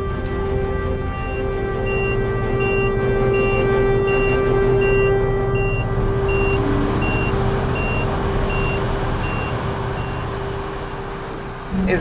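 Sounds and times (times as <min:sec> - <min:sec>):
diesel-electric drive rumble: 0:00.0 - 0:12.0
steady hum: 0:00.0 - 0:12.0
truck warning beeper: 0:01.0 - 0:12.0.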